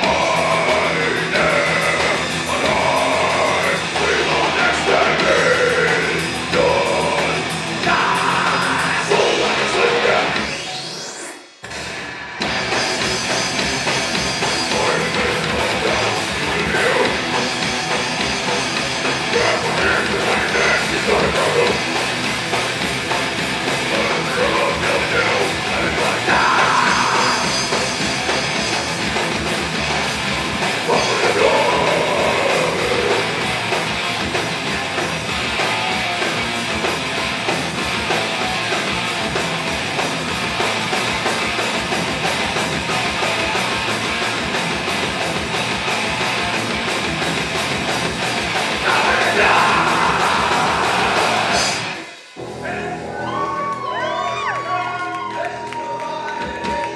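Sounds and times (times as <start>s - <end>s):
drum kit: 0.0s - 10.7s, 11.6s - 56.9s
electric guitars: 0.0s - 56.9s.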